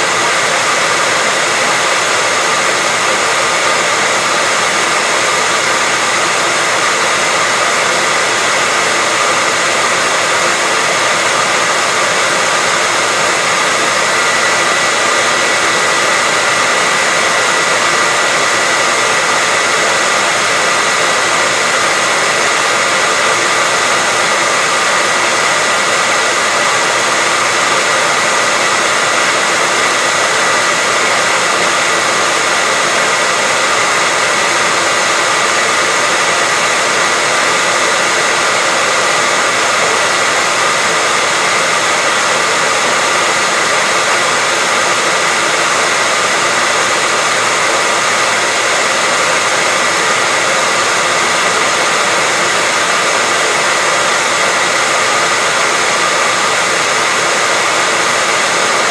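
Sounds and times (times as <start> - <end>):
hairdryer running: 0.0 - 58.9.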